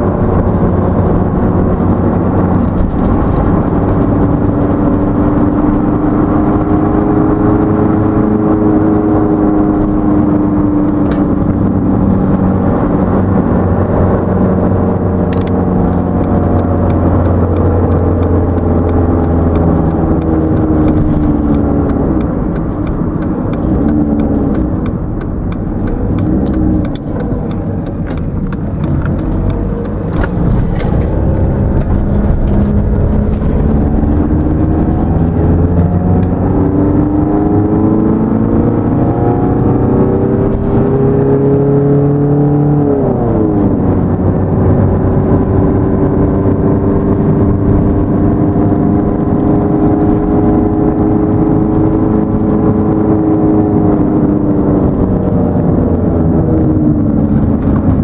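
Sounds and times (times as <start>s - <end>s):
car engine running: 0.0s - 58.0s
tyre road noise: 0.0s - 58.0s.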